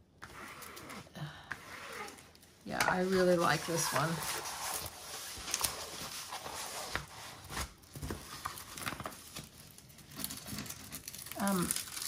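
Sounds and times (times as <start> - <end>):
plastic film crinkling: 2.0 - 12.0.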